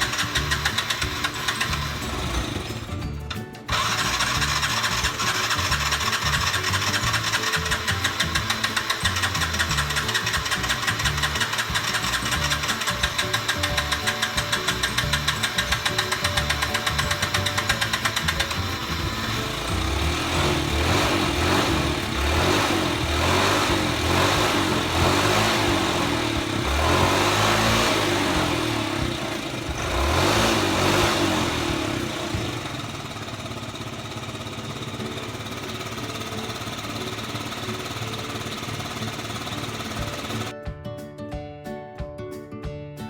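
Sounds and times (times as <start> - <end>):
scooter engine revving and idling: 0.0 - 40.5
scooter starter motor pulsing: 0.0 - 40.5.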